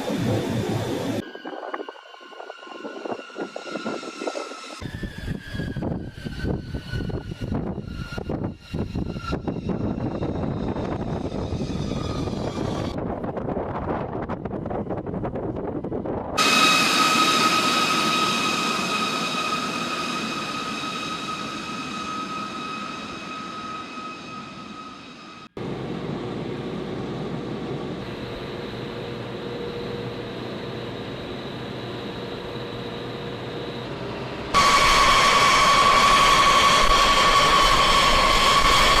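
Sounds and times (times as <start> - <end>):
jet engines whining and roaring: 0.0 - 39.0.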